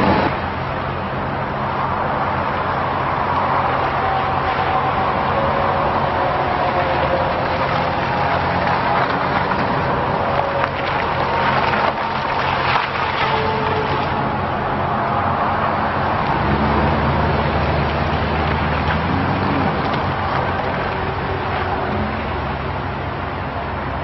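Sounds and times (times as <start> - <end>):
truck engine running: 0.0 - 24.0
tyres crackling on gravel: 1.8 - 22.9.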